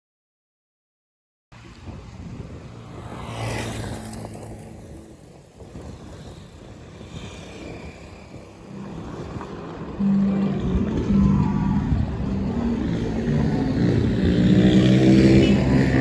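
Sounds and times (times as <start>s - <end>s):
road traffic: 1.6s - 16.0s
vehicle passing by: 1.9s - 16.0s.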